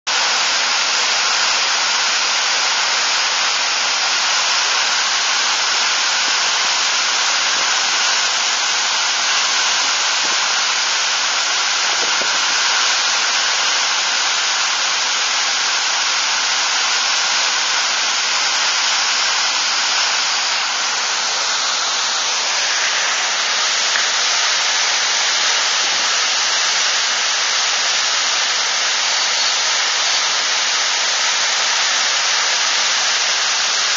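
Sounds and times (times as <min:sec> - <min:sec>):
rush of falling water: 0:00.1 - 0:33.9.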